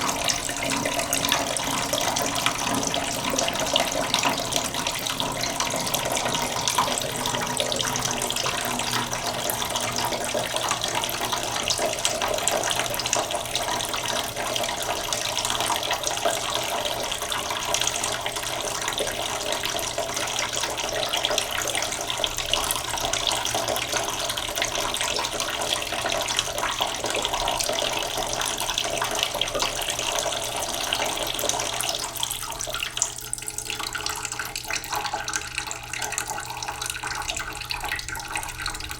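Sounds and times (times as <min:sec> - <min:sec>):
tap water running into pot: 0:00.0 - 0:38.9.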